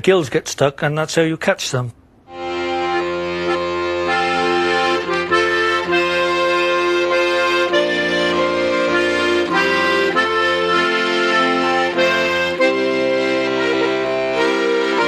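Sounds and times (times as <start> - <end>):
accordion music: 2.3 - 15.0.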